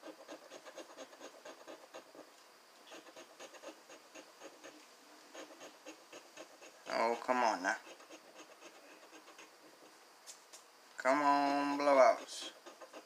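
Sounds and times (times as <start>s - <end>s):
scratching lottery ticket: 0.0s - 2.3s, 2.9s - 9.9s, 11.7s - 13.0s.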